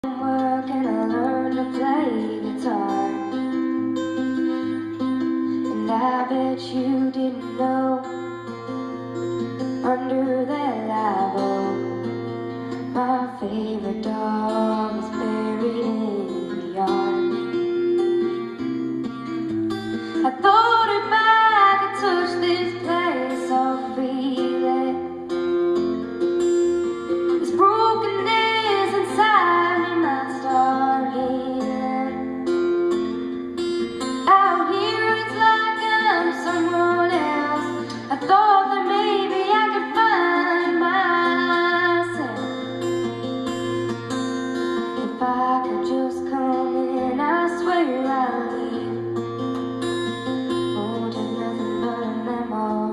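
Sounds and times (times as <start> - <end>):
plucked guitar chords: 0.0 - 52.9
woman singing: 0.0 - 52.9.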